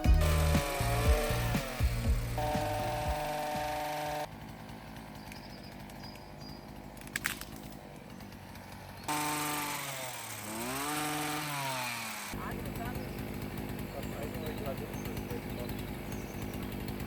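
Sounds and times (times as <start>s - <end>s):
chainsaw running: 0.0s - 17.0s.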